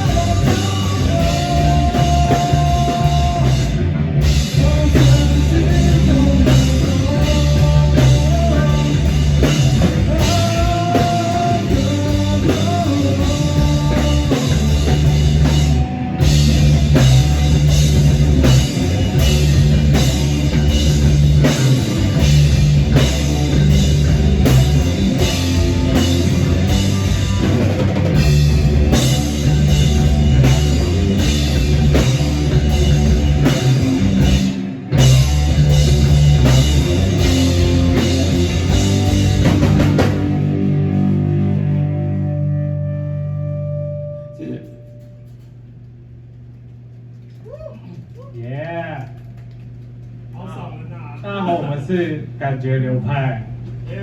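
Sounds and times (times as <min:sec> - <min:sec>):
rock band playing live: 0:00.0 - 0:44.6.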